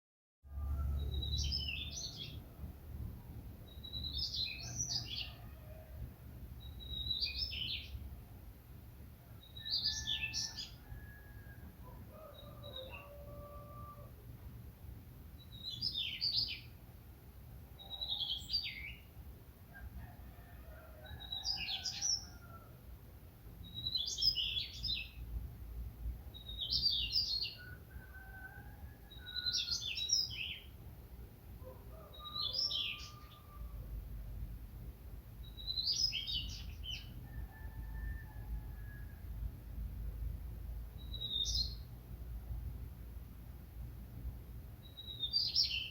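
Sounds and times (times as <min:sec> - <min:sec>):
songbird singing: 0:00.6 - 0:08.4, 0:09.3 - 0:14.1, 0:15.3 - 0:16.9, 0:17.6 - 0:22.7, 0:23.5 - 0:25.4, 0:26.2 - 0:34.5, 0:35.4 - 0:42.6, 0:44.7 - 0:45.9.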